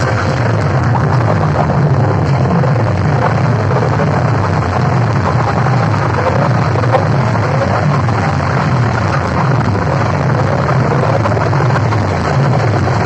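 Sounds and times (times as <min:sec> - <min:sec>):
loud distorted bass music: 0:00.0 - 0:13.0.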